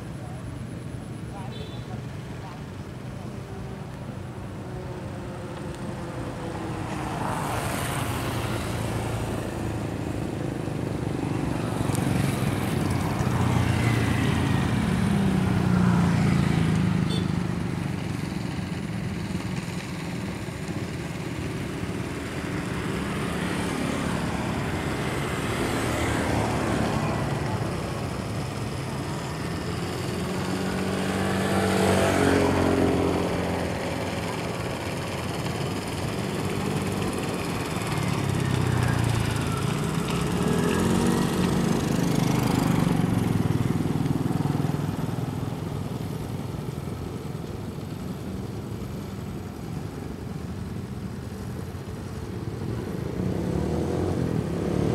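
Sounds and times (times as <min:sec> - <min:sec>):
outboard engine running: 0:01.0 - 0:53.1.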